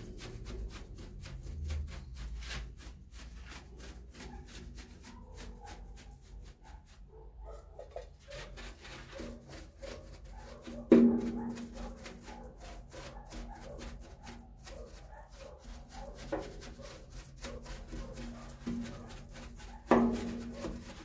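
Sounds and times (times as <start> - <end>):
paintbrush scratching on wood: 0.0 - 21.0.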